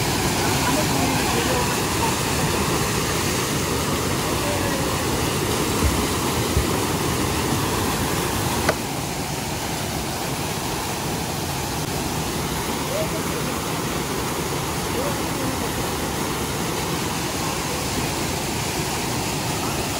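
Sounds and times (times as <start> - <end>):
stream cascading over boulders: 0.0 - 19.9.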